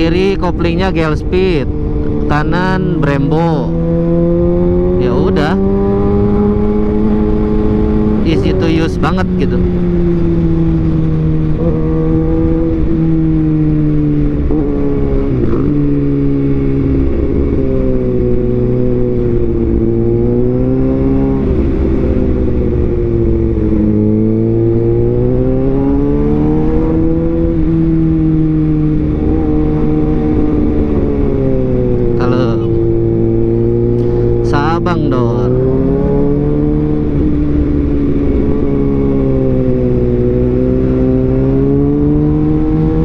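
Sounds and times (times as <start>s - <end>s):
motorcycle engine running: 0.0s - 43.0s
wind and road noise: 0.0s - 43.0s.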